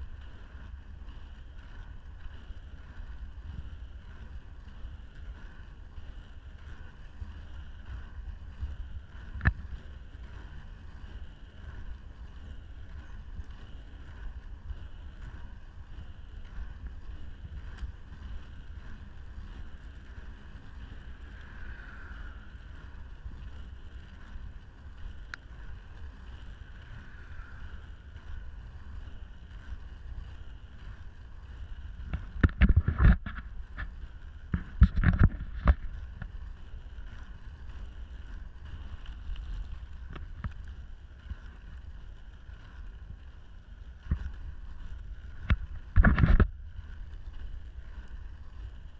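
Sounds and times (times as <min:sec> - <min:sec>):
skate wheels rolling on asphalt: 0:00.0 - 0:48.9
wind on microphone: 0:00.0 - 0:48.9.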